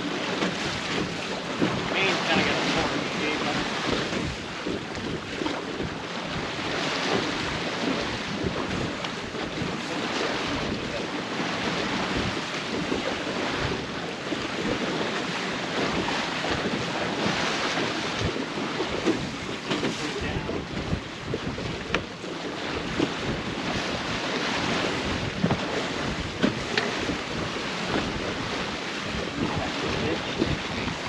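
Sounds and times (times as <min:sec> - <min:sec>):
water sloshing along hull: 0:00.0 - 0:31.0
wind buffeting microphone: 0:00.0 - 0:31.0.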